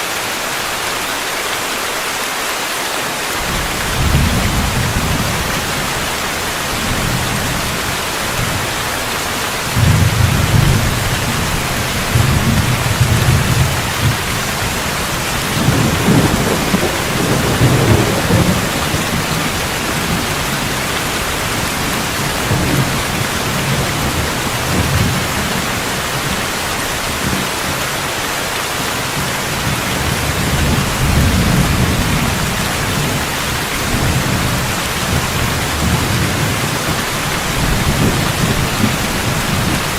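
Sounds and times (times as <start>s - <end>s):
heavy rain hissing: 0.0s - 39.9s
rolling thunder: 3.4s - 26.4s, 29.1s - 39.9s.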